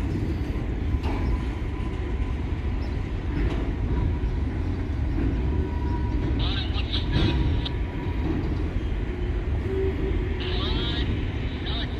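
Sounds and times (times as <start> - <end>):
freight train rolling by: 0.0 - 11.9.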